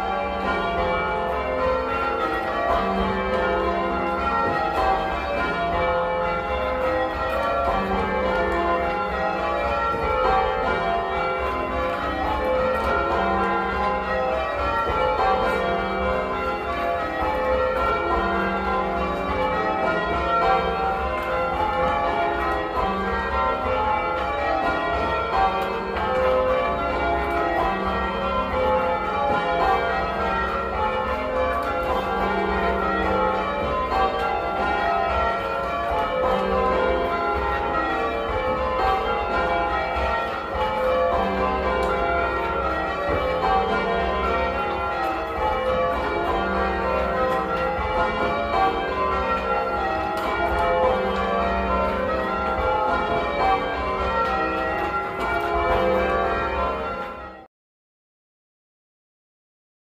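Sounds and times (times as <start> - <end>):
church bells ringing: 0.0 - 57.5.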